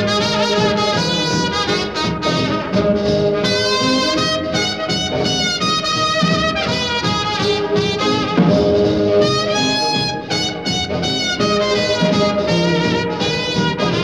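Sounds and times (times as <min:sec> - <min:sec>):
jazzy brass music: 0:00.0 - 0:14.0.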